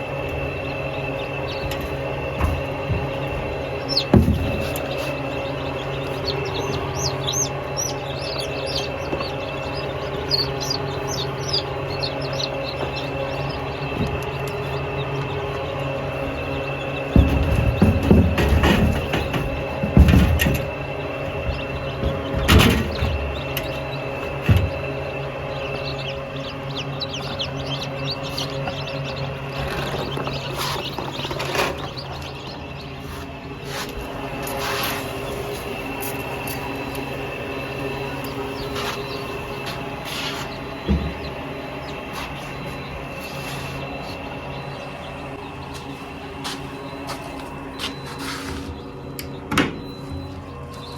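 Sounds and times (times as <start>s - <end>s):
small birds chirping: 0.0s - 50.9s
steady hum: 0.0s - 50.9s.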